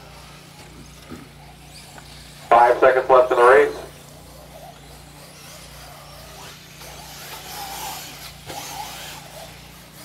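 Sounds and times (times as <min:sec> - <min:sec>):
rc car motors whining: 0:00.0 - 0:10.0
steady low hum: 0:00.0 - 0:10.0.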